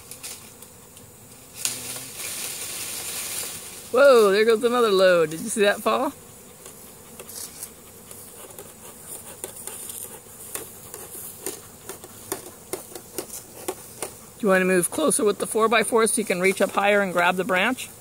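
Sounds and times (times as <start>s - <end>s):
honeybees humming: 0.0s - 18.0s.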